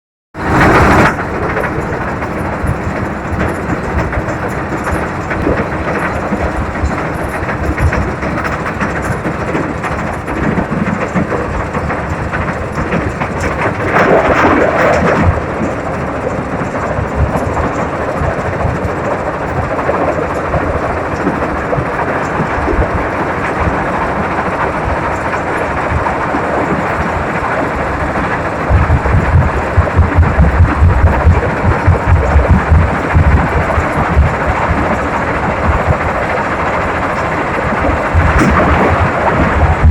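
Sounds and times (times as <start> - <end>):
heavy machine engine running: 0.4 - 39.9.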